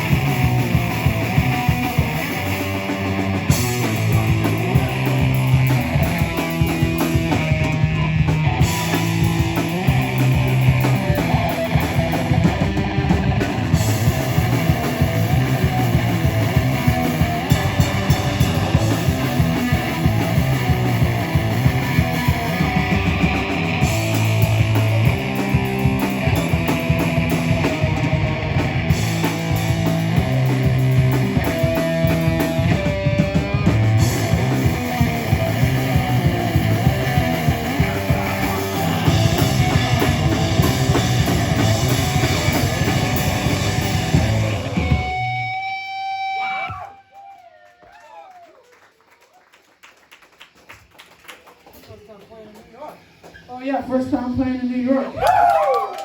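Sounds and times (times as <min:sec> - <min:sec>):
drum kit driving beat: 0:00.0 - 0:46.9
bass guitar: 0:00.0 - 0:47.0
distorted electric guitars: 0:00.0 - 0:47.0.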